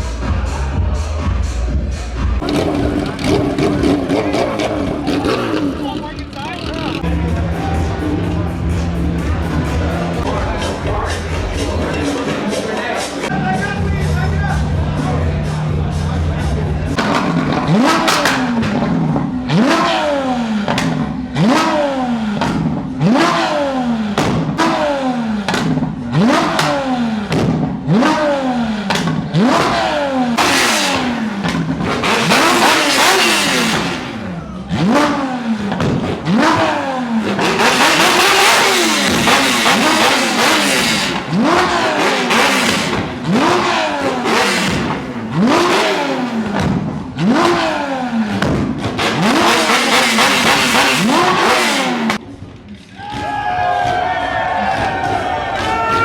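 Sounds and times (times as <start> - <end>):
car engine revving: 0.0 - 53.3.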